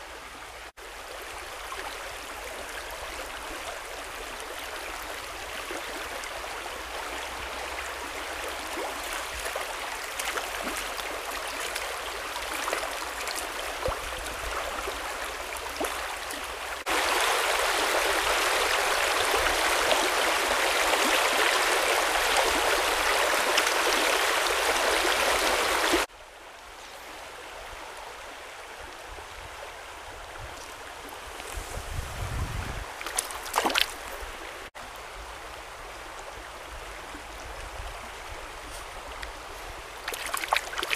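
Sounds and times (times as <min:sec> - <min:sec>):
stream flowing over branches: 0:00.0 - 0:40.9.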